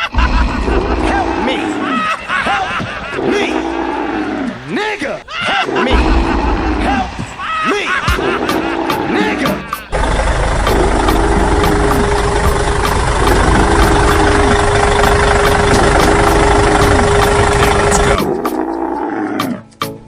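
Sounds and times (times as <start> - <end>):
motor humming: 0.0 - 18.3.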